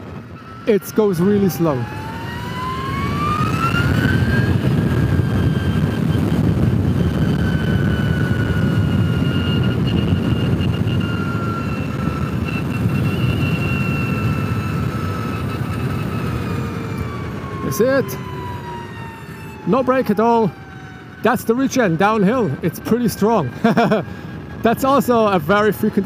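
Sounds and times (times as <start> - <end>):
electric motorcycle motor whining: 0.0 - 26.0
wind and road rush: 0.0 - 26.0.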